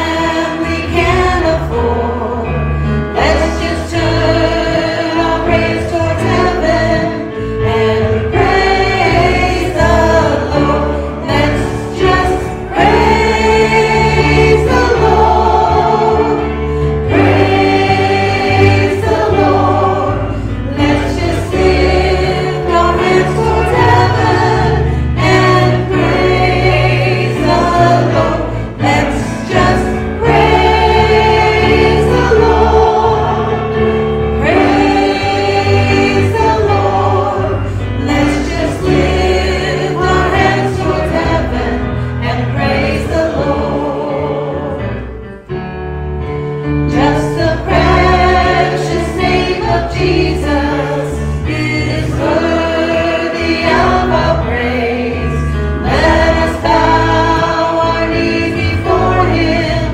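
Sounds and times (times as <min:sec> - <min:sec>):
group singing gospel song: 0:00.0 - 0:45.1, 0:46.8 - 0:59.9.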